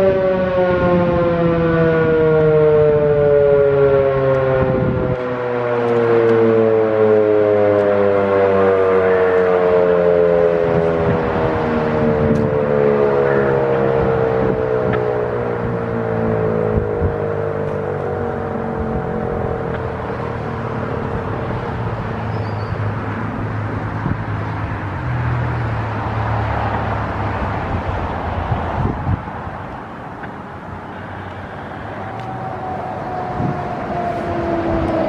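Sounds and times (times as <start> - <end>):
vehicle engine humming: 0.0 - 35.0
warning siren winding down: 0.0 - 35.0.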